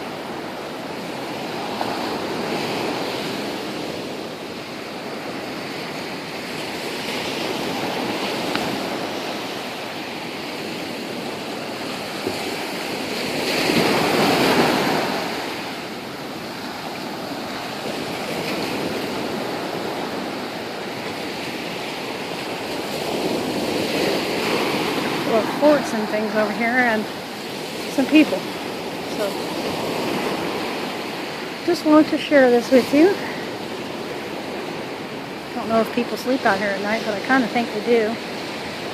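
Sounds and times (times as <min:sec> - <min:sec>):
ocean waves breaking: 0:00.0 - 0:38.9
wind on microphone: 0:00.0 - 0:38.9.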